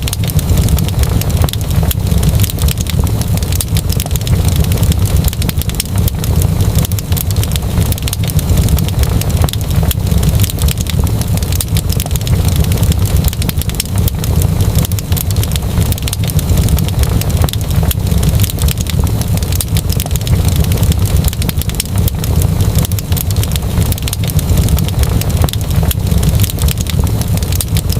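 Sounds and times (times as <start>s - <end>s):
fireplace fire crackling: 0.0s - 27.9s.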